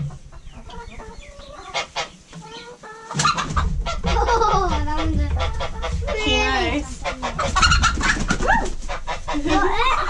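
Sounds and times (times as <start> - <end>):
chickens clucking and squawking: 0.0 - 10.0.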